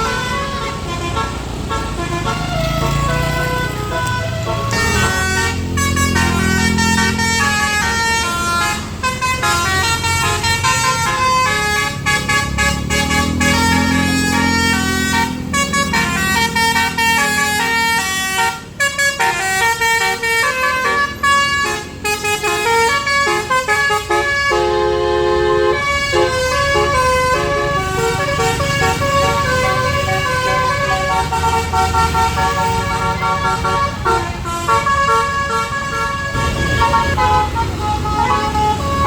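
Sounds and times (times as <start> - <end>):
vehicle engine running: 0.0 - 18.2, 25.8 - 39.0
multi-note vehicle horn melody: 0.0 - 39.0.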